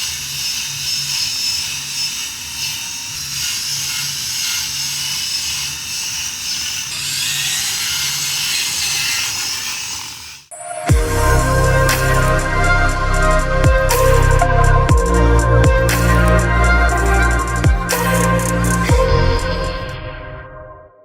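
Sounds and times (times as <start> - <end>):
mechanical whirring with low throb: 0.0 - 9.2, 10.9 - 20.2.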